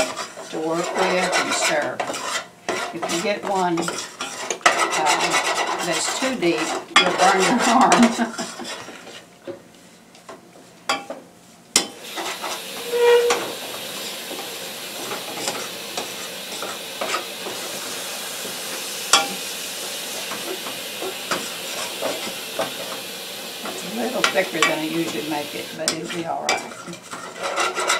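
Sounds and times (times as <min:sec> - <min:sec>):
roux sizzling in a pan: 0:00.0 - 0:09.2, 0:11.8 - 0:27.9
spoon stirring and scraping a pan: 0:00.0 - 0:11.2, 0:11.8 - 0:27.9.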